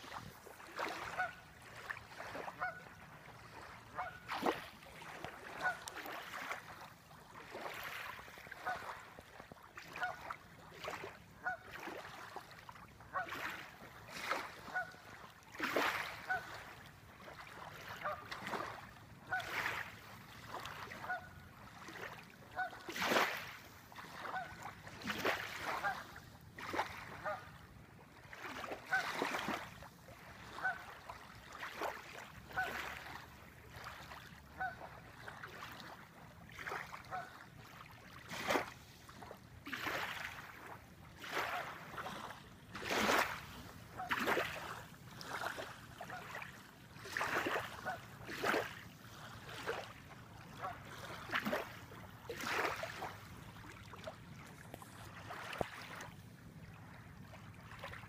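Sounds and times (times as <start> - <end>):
small waves lapping: 0.0 - 58.0
water bird calling: 0.0 - 58.0.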